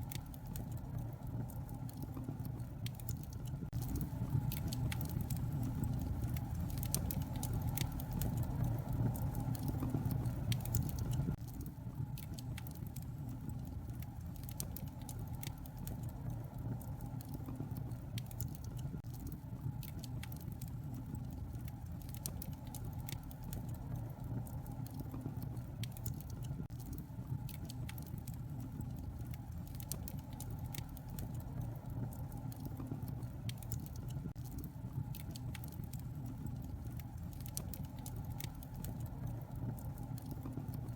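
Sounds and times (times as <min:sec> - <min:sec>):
sharp pops and ticks: 0:00.0 - 0:40.9
steady low rumble: 0:00.0 - 0:40.9
wood fire crackling: 0:00.0 - 0:40.9.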